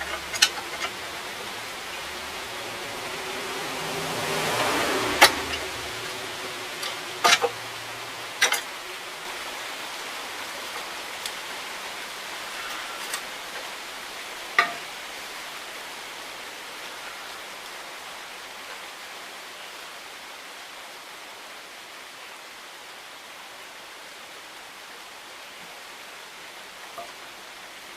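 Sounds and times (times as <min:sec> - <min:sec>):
background hiss: 0:00.0 - 0:27.9.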